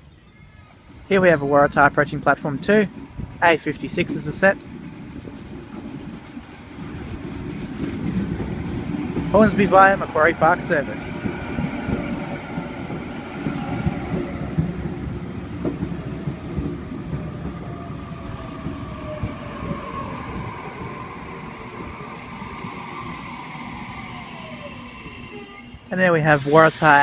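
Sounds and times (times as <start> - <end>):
train wheels rumbling on rails: 0.7 - 27.0.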